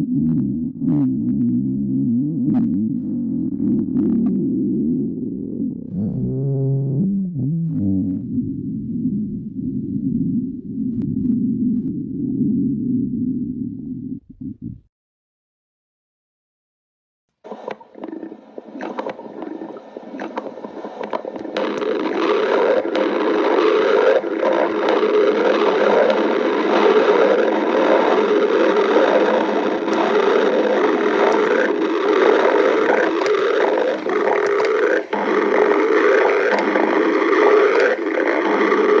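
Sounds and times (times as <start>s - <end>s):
stomach growling: 0.0s - 14.9s, 17.5s - 39.0s.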